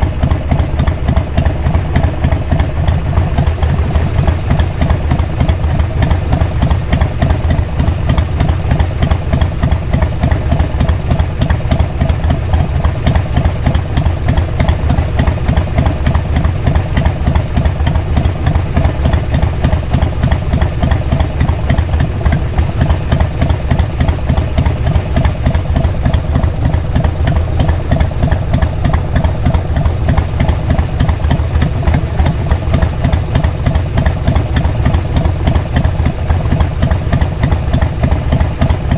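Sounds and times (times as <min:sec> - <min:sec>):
motorcycle exhaust running steadily: 0:00.0 - 0:38.9.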